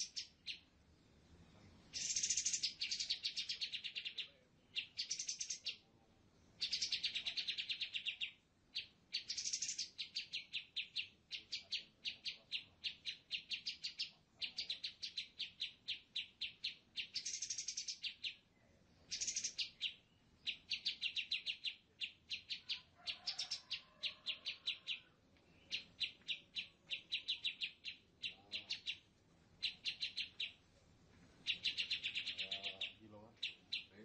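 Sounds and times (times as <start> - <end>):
birds chirping: 0.0 - 34.0
buzzy bird trills: 1.9 - 5.8, 6.6 - 18.4, 19.1 - 29.0, 29.6 - 30.6, 31.4 - 34.0.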